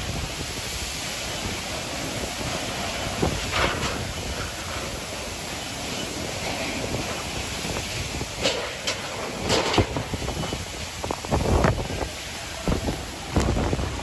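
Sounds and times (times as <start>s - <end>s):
driving rain: 0.0s - 14.0s
storm wind buffeting microphone: 0.0s - 14.0s.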